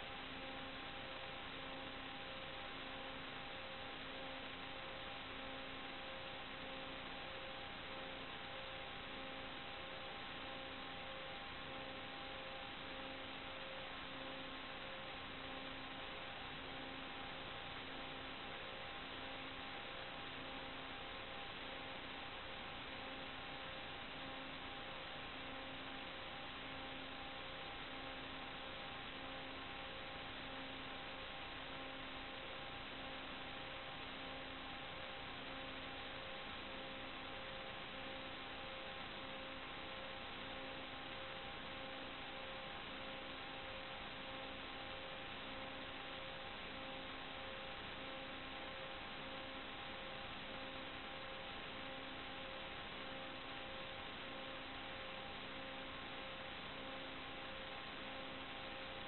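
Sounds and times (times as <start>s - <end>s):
faint hum tones: 0.0s - 59.0s.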